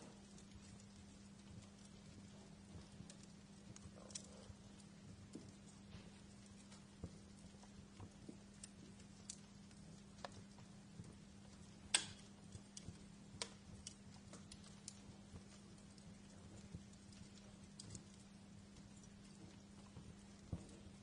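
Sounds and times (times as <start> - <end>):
faint low hum: 0.0 - 21.0
wood fire crackling: 0.0 - 21.0
fire pops: 0.1 - 21.0.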